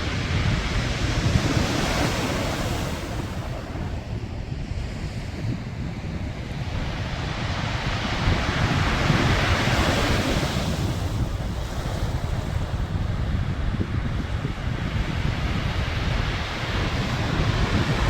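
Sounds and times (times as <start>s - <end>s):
sea waves: 0.0s - 18.0s
wind buffeting microphone: 0.0s - 18.0s.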